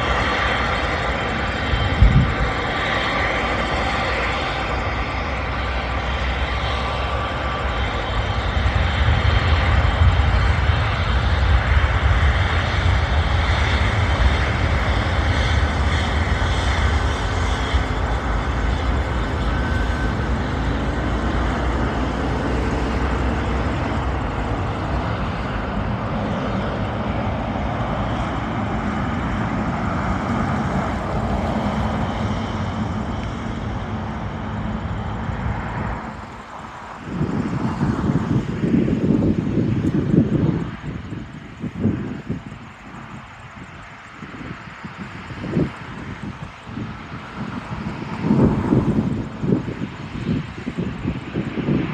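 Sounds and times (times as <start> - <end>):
jet engines roaring at takeoff: 0.0 - 51.9.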